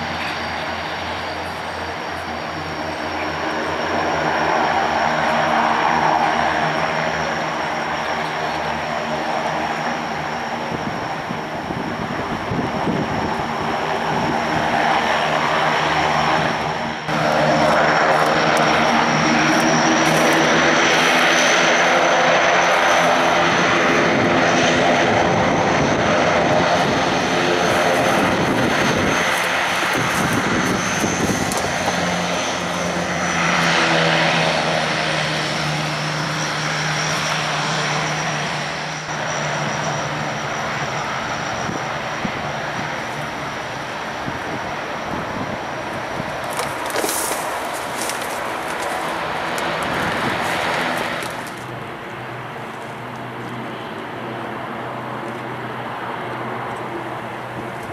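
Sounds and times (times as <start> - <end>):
turboprop aircraft engines whining: 0.0 - 57.9.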